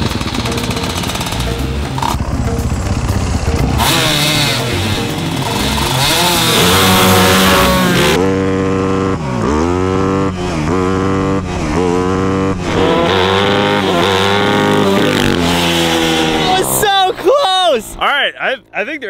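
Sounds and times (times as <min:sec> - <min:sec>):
kart engine accelerating: 0:00.0 - 0:17.3.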